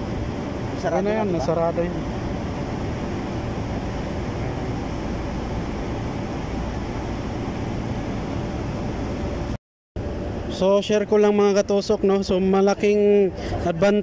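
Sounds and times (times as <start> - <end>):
mechanical hum with low rumble: 0.0 - 14.0.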